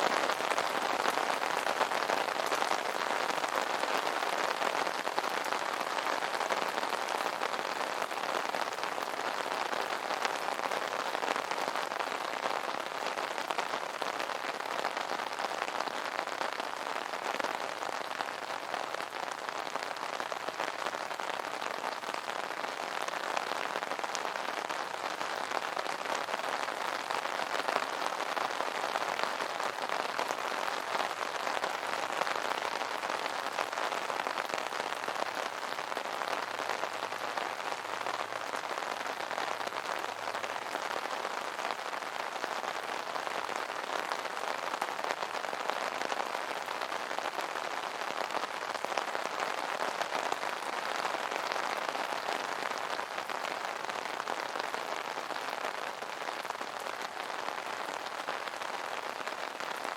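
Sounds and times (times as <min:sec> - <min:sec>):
rain drumming on an umbrella: 0:00.0 - 0:59.9.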